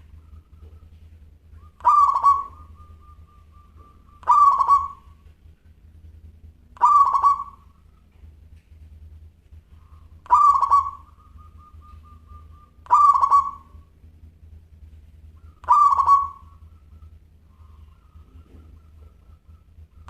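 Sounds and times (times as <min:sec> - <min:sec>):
dove cooing: 0:00.0 - 0:05.8, 0:06.7 - 0:08.5, 0:09.7 - 0:14.1, 0:15.2 - 0:20.0.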